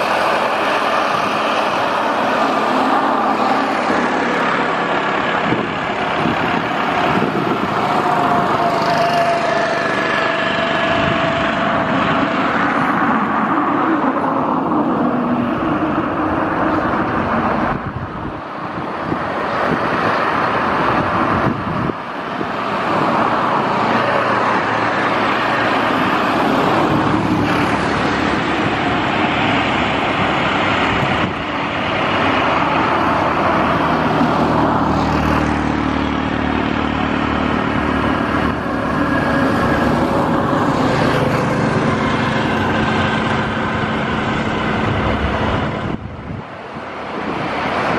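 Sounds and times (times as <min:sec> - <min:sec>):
turboprop engine drone: 0:00.0 - 0:47.9.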